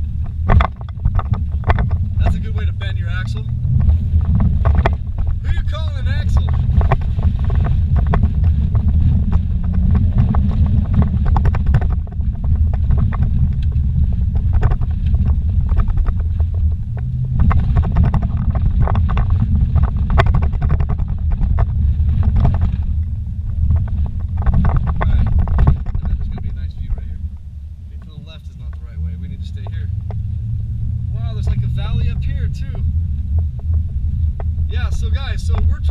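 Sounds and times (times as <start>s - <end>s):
car knocks and rattles: 0.0s - 35.9s
engine and tyre rumble: 0.0s - 35.9s.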